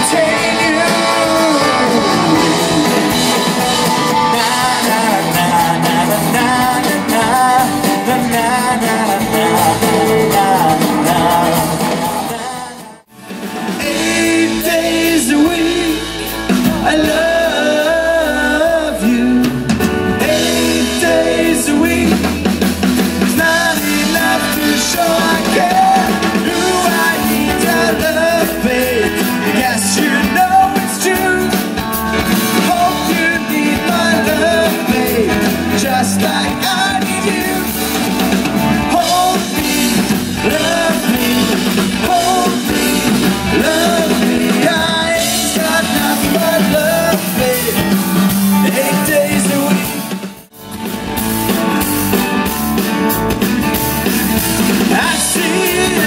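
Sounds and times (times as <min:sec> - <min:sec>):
man singing into a microphone: 0:00.0 - 0:13.0, 0:13.7 - 0:50.2, 0:54.7 - 0:56.0
drum kit: 0:00.0 - 0:56.0
guitars: 0:00.0 - 0:56.0
keyboard: 0:00.0 - 0:56.0.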